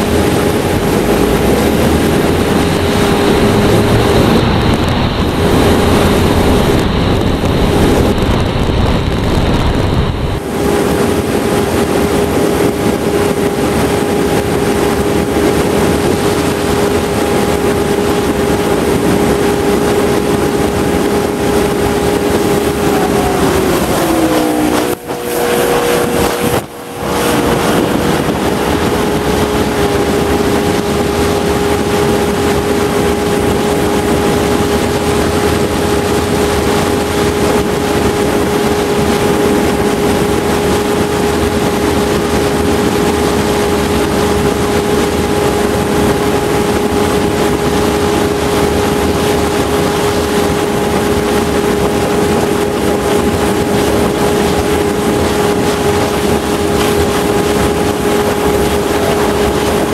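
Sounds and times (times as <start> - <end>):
motorboat engine running: 0.0 - 59.9
rush of wind and water: 0.0 - 59.9.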